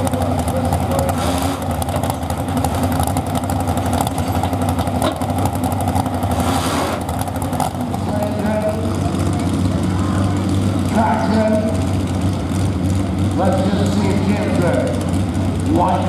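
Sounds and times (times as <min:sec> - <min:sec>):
truck engine running loud: 0:00.0 - 0:16.0.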